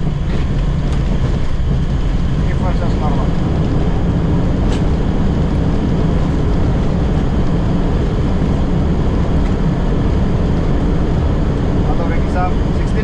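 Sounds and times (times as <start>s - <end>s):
jet engines in reverse thrust: 0.0s - 13.0s.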